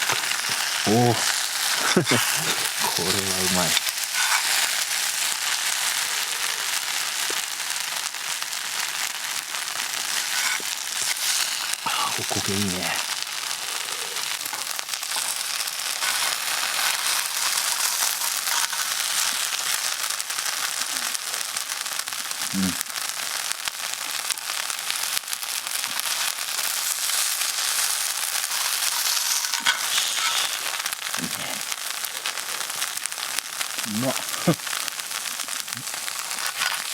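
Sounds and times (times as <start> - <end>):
batter sizzling on a hot griddle: 0.0 - 36.9.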